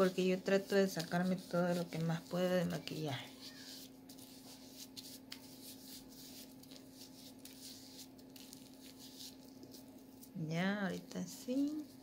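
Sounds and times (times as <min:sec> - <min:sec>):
cotton pad rubbing skin: 0:00.0 - 0:10.4
steady low hum: 0:00.0 - 0:12.0.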